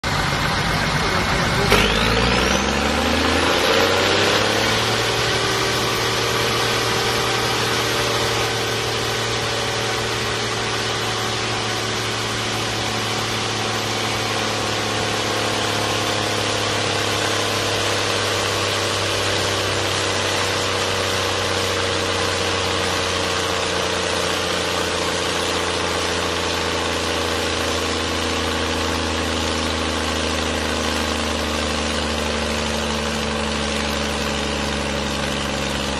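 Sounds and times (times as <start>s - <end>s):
tractor diesel engine revving: 0.0s - 35.9s.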